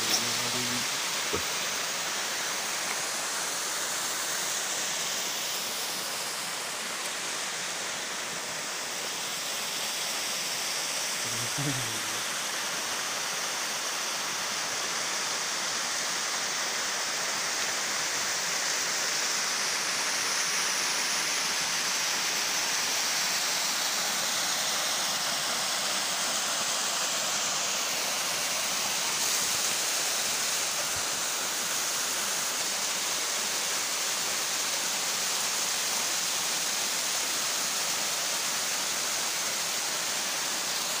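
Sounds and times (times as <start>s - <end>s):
small waterfall rushing: 0.0s - 41.0s.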